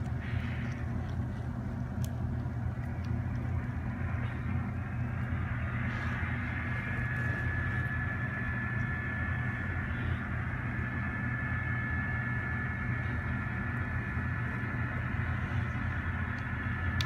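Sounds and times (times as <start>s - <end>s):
diesel engine drone: 0.0s - 17.0s
high-pitched whine: 0.0s - 17.0s.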